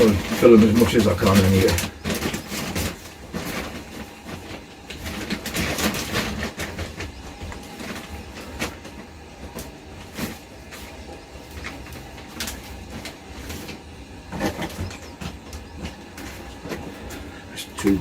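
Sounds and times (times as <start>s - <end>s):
low steady hum: 0.0s - 18.0s
plastic trays scraping and knocking: 0.0s - 18.0s.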